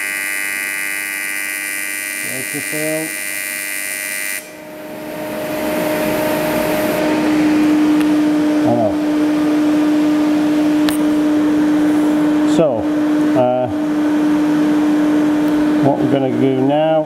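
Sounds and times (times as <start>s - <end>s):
welding arc buzz: 0.0s - 15.8s
machinery hum: 0.0s - 17.0s.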